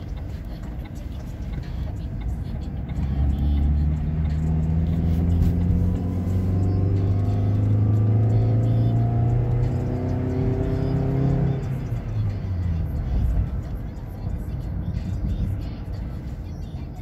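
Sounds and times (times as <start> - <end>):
car engine accelerating: 0.0 - 17.0
road rumble: 0.0 - 17.0.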